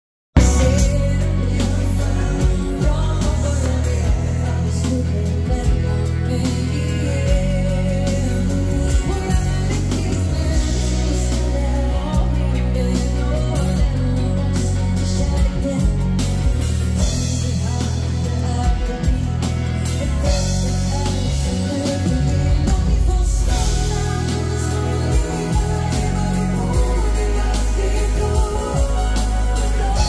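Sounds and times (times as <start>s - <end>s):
live band playing: 0.3s - 30.0s
woman singing into a microphone: 0.4s - 16.4s, 17.0s - 30.0s
heavy bass line: 0.4s - 30.0s
regular drum beat: 0.4s - 30.0s.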